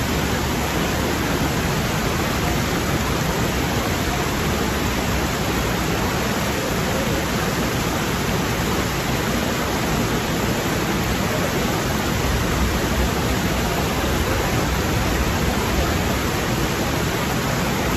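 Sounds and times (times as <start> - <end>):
stream rushing over rocks: 0.0 - 17.9.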